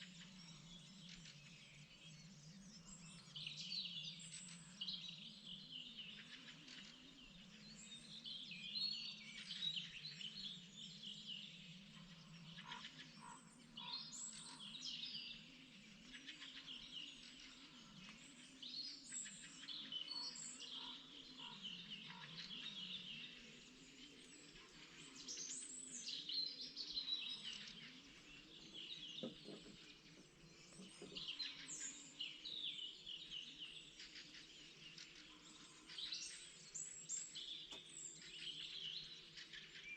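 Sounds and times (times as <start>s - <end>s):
faint low wavering drone: 0.0s - 39.8s
songbirds singing: 0.0s - 39.9s.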